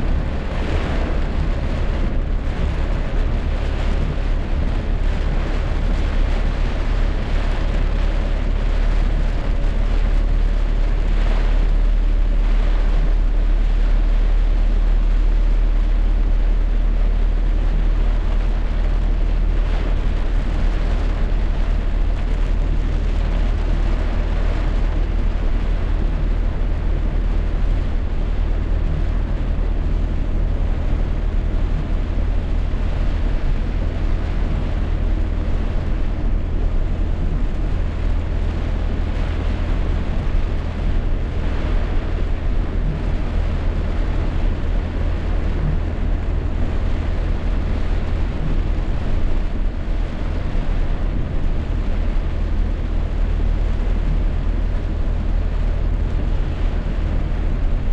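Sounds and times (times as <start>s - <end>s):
deep rumble: 0.0s - 57.9s
heavy rain: 0.0s - 57.9s.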